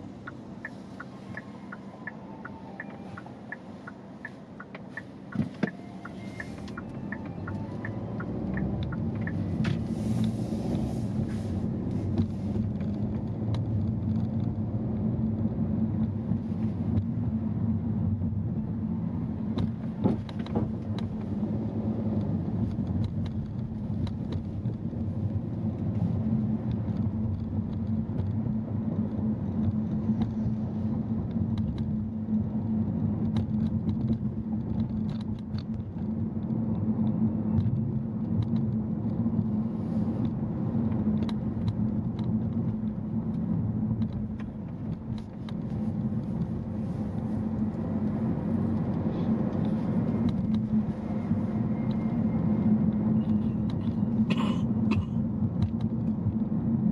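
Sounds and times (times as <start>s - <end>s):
car engine and road rumble: 0.0s - 56.9s.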